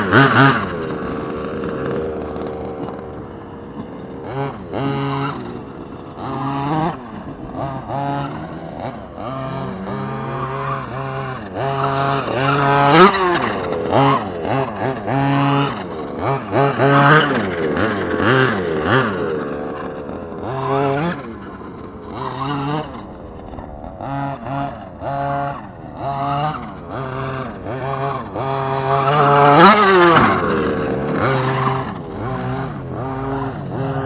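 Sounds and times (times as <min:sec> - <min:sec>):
small two-stroke engine revving: 0:00.0 - 0:34.0.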